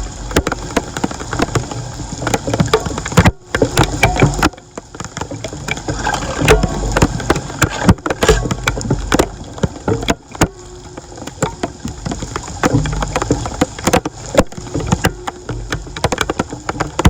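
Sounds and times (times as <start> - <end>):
sharp knocks and clatter: 0.3 - 17.0.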